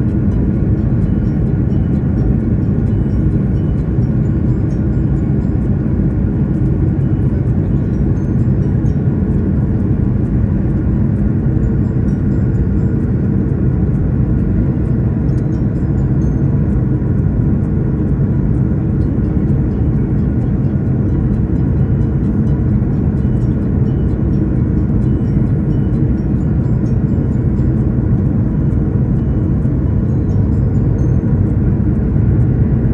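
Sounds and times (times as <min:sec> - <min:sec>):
jet engine cabin hum: 0:00.0 - 0:32.9.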